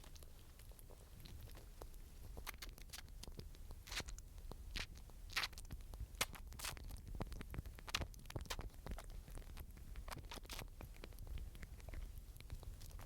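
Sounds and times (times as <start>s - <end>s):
squirrel scratching and nibbling: 0.0s - 13.0s.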